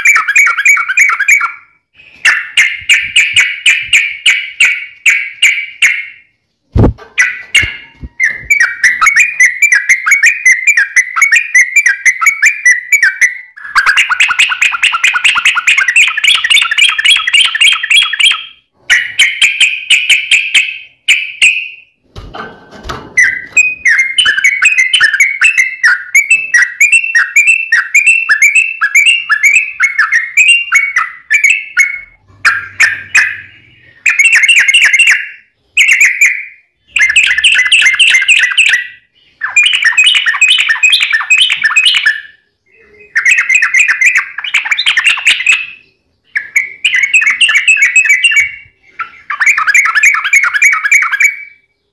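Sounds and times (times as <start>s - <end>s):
bulbul chattering song: 0.0s - 21.9s, 23.2s - 51.9s.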